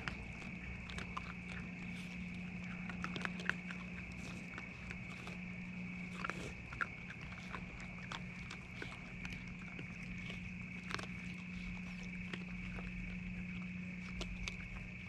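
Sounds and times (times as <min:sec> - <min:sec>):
animals chewing and crunching: 0:00.0 - 0:15.0.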